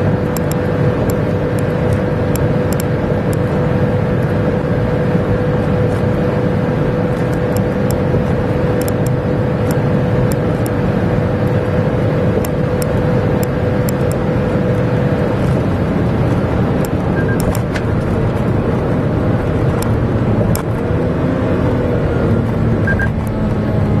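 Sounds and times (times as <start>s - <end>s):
car engine running: 0.0s - 24.0s
steady whine: 0.0s - 24.0s.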